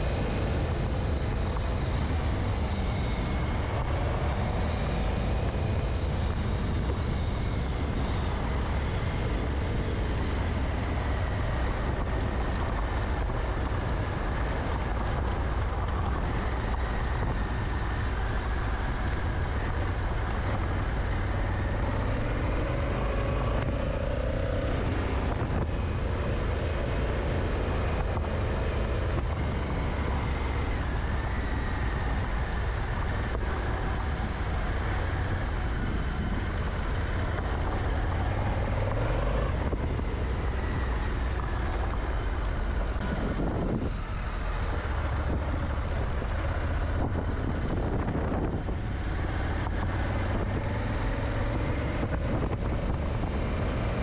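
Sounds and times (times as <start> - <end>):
motorcycle engine running: 0.0 - 54.0
wind rumble on microphone: 0.0 - 54.0.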